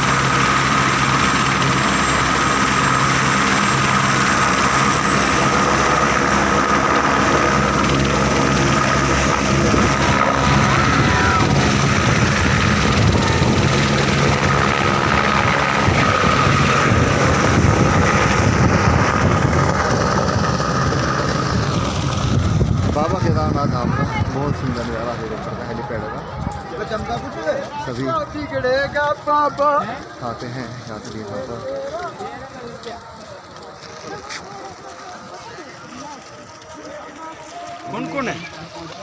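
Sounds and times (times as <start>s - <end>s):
helicopter turbine and rotor: 0.0s - 32.3s.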